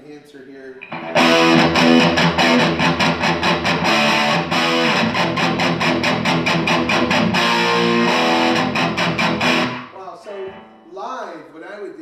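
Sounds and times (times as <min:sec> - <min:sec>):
electric guitar strumming chords: 0:00.8 - 0:10.9.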